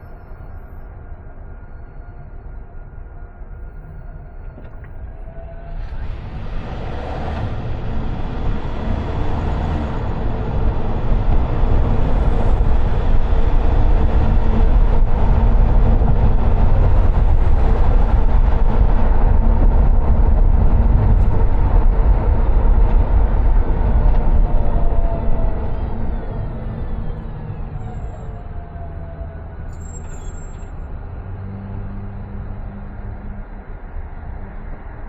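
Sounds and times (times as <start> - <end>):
deep vehicle rumble: 0.0 - 35.0.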